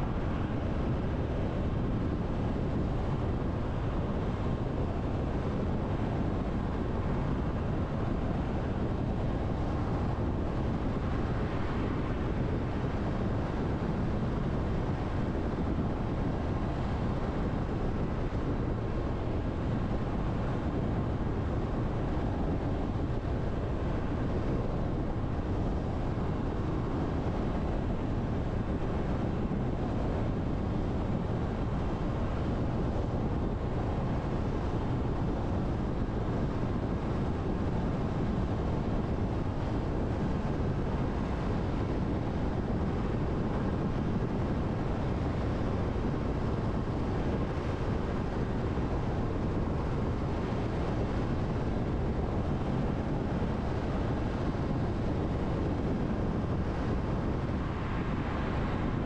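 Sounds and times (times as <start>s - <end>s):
car tyre and wind noise: 0.0s - 59.0s.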